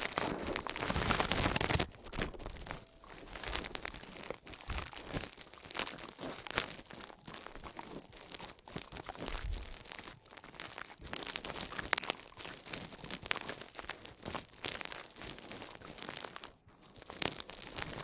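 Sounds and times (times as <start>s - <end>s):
close crackling and scratching: 0.0s - 18.0s
small clicks and rustles: 0.0s - 18.0s.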